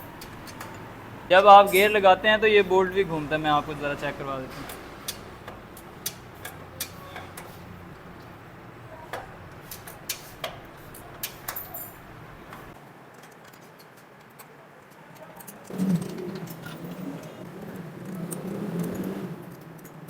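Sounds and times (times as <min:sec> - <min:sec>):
gear shift mechanism clicks: 0:00.0 - 0:12.8, 0:15.2 - 0:20.0.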